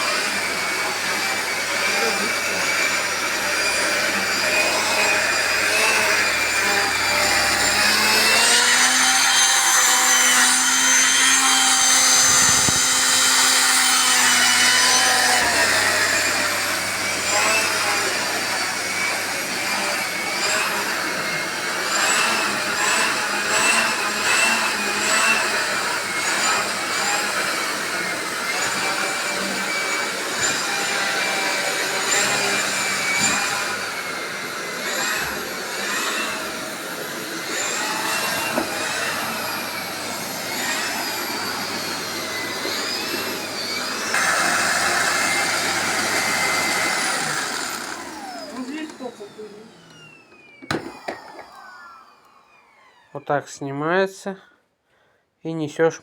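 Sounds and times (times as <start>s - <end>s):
vacuum cleaner motor whine: 0.0s - 53.4s.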